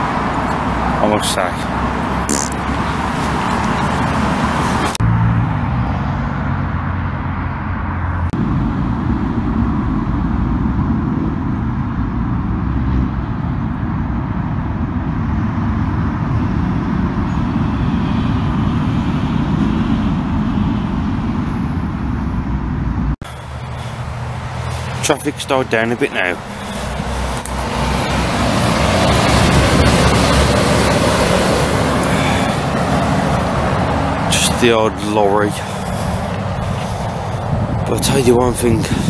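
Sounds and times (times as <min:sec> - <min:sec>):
road traffic rumble: 0:00.0 - 0:39.0
vehicle engine drone: 0:00.0 - 0:39.0.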